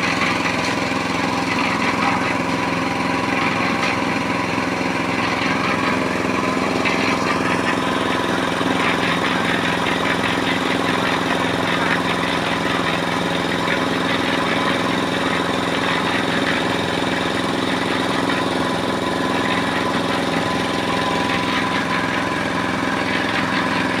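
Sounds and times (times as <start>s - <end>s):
small engine running steadily: 0.0s - 24.0s.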